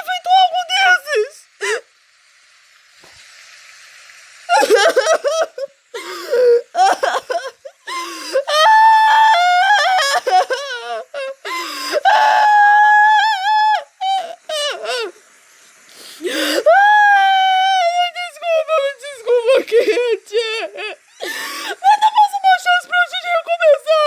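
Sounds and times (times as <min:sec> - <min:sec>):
high-pitched voice crying and wailing: 0:00.0 - 0:01.8, 0:04.5 - 0:15.1, 0:16.2 - 0:24.0.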